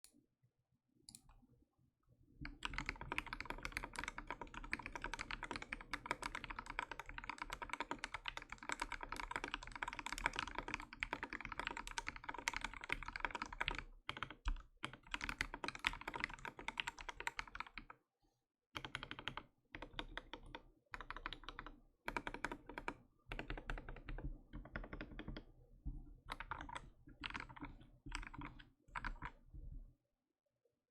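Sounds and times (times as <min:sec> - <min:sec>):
mechanical keyboard typing: 0:02.5 - 0:17.9, 0:18.8 - 0:25.5, 0:26.3 - 0:29.4.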